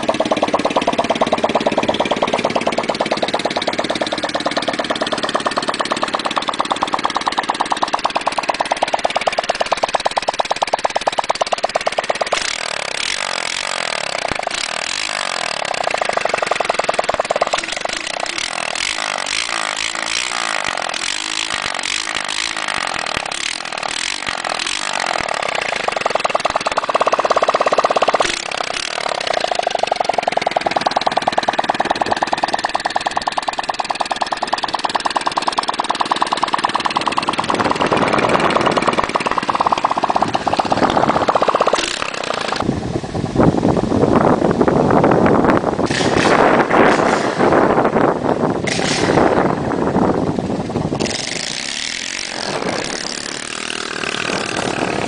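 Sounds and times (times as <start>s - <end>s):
unmuffled single-cylinder engine: 0.0s - 55.0s.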